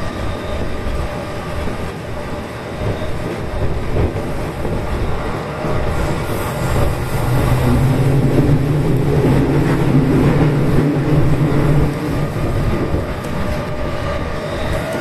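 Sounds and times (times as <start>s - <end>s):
electric train running noise: 0.0s - 15.0s.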